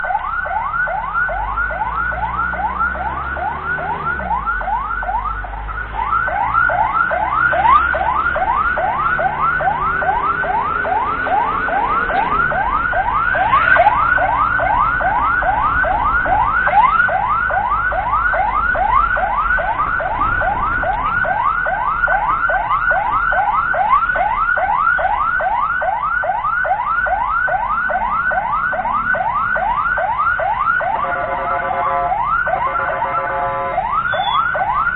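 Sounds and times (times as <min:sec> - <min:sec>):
ambulance siren yelping: 0:00.0 - 0:34.9.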